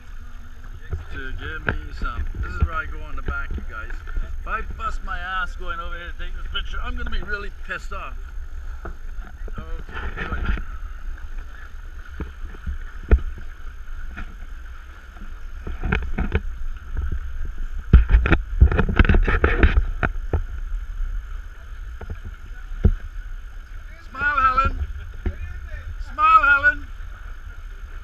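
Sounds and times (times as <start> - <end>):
water rushing along hulls: 0.0 - 28.0
wind buffeting microphone: 0.0 - 28.0.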